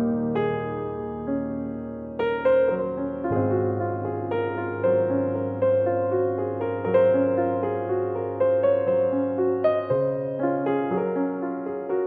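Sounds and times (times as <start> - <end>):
keyboard instrumental music: 0.0 - 12.0.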